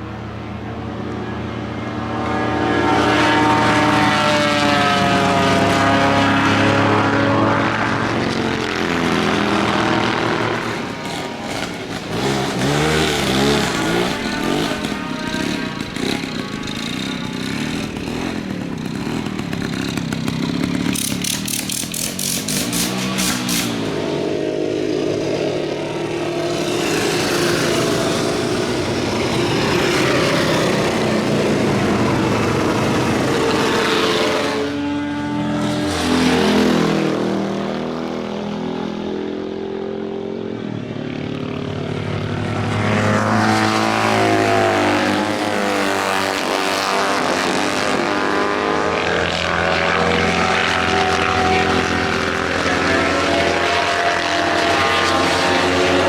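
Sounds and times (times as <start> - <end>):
racing motorcycles passing by: 0.0 - 56.0.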